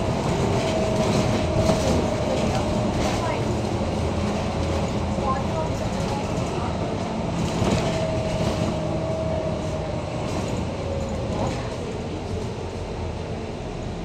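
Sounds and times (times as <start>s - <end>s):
bus engine drone: 0.0s - 14.0s
road noise and rattles: 0.0s - 14.0s.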